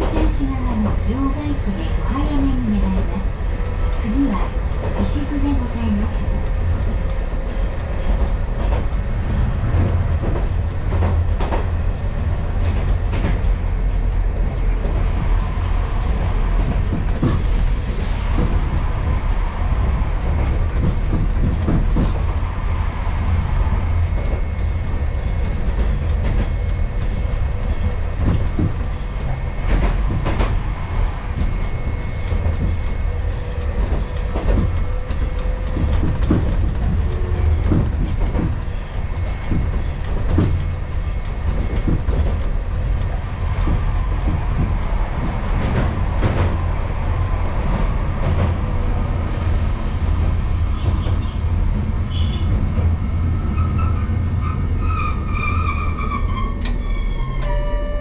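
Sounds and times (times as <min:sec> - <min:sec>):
streetcar rumble: 0:00.0 - 0:58.0.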